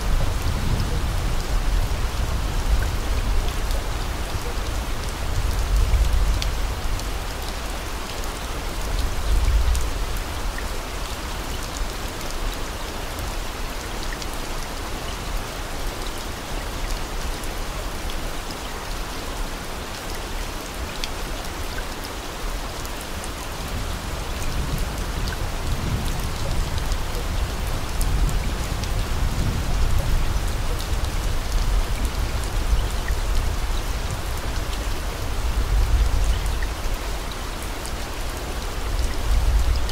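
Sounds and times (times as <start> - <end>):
rain-like hiss with pattering: 0.0 - 39.9.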